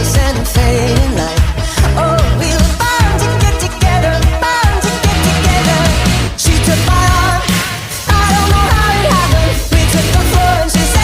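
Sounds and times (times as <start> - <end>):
pop-rock song with vocals: 0.0 - 11.0.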